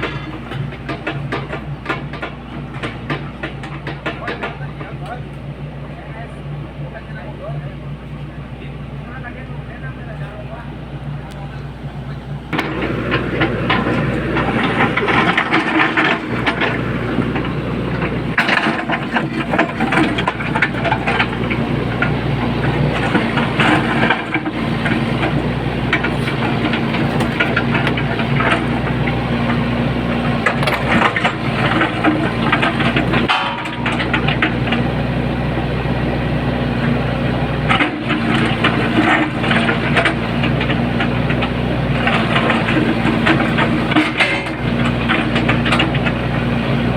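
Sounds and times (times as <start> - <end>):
cracking and knocking: 0.0 - 4.7, 12.5 - 46.9
diesel engine running: 0.0 - 46.9.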